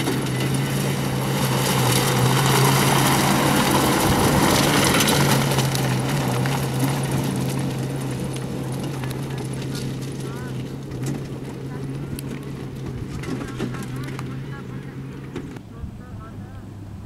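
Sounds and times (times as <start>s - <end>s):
tyres on loose rocks: 0.0s - 15.6s
car engine running: 0.0s - 17.0s.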